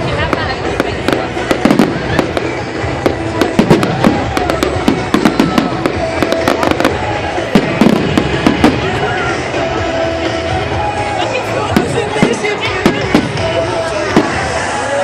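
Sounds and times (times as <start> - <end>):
fireworks cracking and banging: 0.0 - 15.0
music: 0.0 - 15.0
voices: 0.0 - 15.0.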